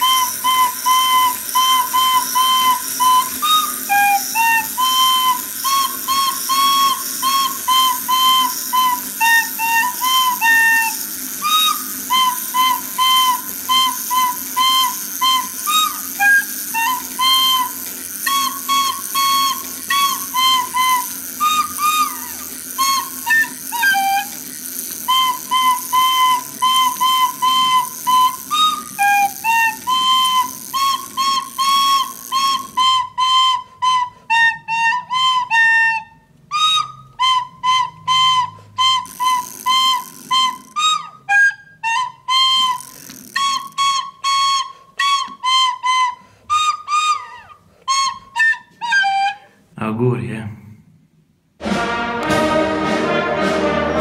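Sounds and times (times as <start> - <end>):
whistled melody: 0.0 - 49.5.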